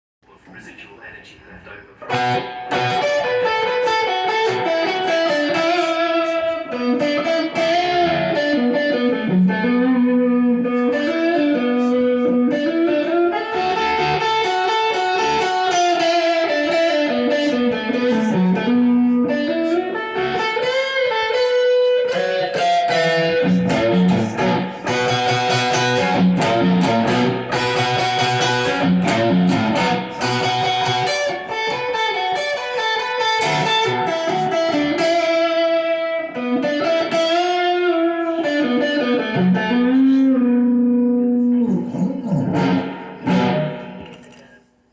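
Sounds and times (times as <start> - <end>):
electric guitar music: 2.0 - 44.5.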